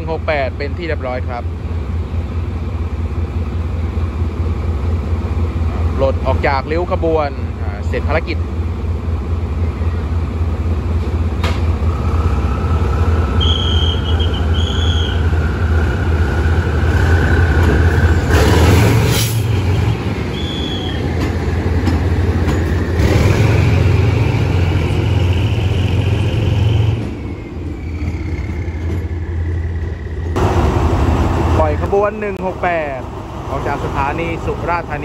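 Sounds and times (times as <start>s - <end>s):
diesel locomotive rumble and whine: 0.0s - 35.0s.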